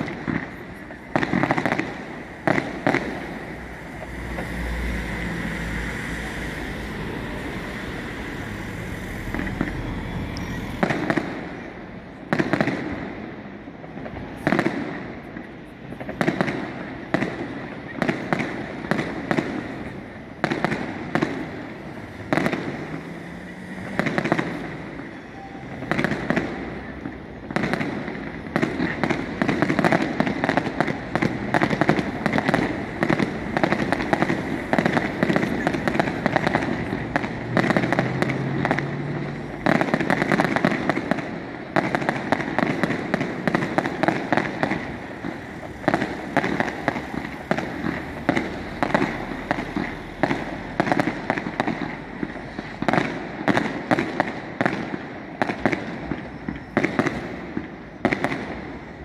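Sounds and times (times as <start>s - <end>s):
fireworks bangs and crackle: 0.0s - 59.0s.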